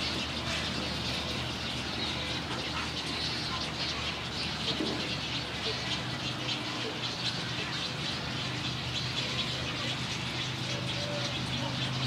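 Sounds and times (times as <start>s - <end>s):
crowd of birds calling: 0.0s - 12.0s.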